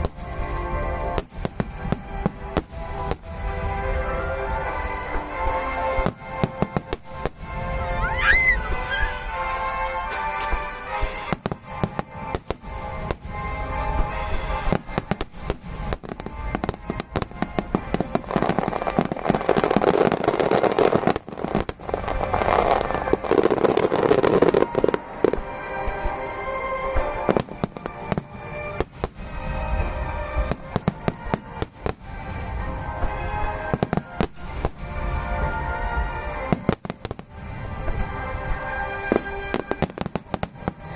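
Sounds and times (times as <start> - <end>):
fireworks bursting: 0.0 - 40.9
fireworks crackling: 0.0 - 40.9
music playing: 0.0 - 40.9.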